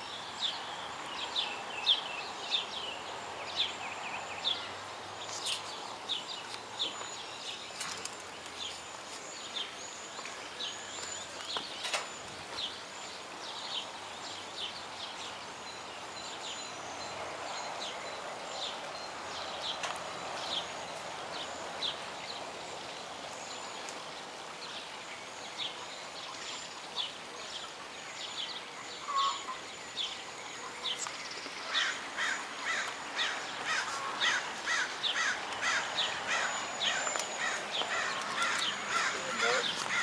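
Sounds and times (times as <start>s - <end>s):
bird chirps: 0.0s - 40.0s
outdoor background hiss: 0.0s - 40.0s.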